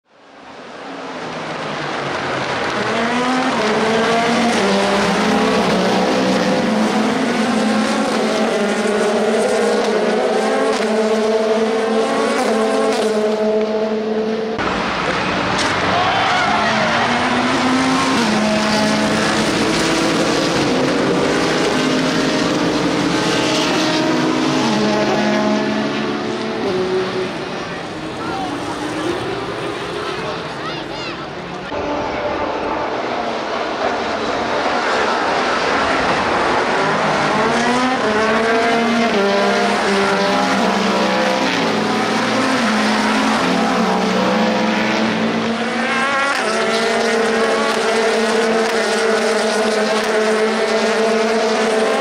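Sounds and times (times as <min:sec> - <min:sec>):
race cars passing at speed: 0:00.1 - 0:52.0.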